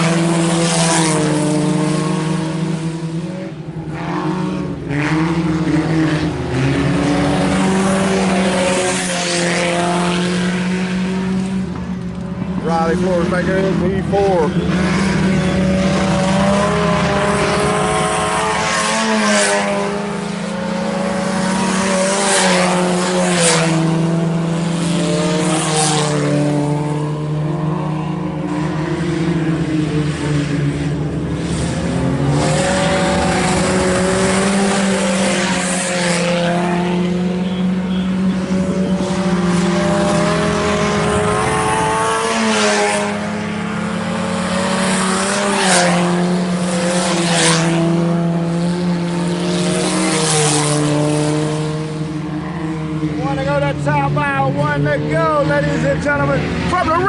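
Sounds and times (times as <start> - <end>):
cars passing by: 0.0 - 57.0
race car engines revving: 0.0 - 57.0.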